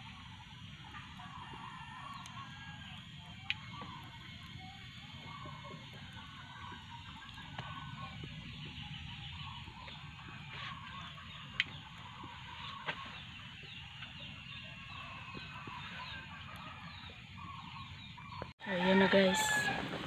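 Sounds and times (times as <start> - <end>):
birds chirping: 0.4 - 19.6.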